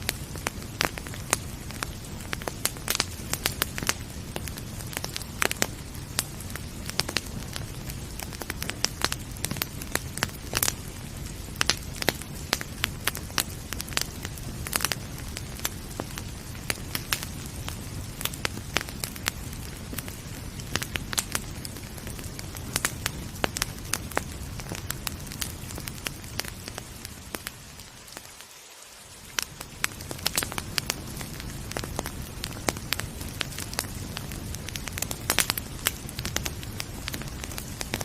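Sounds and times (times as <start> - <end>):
low rumble and hiss: 0.0 - 38.0
wood fire crackling and popping: 0.0 - 38.0.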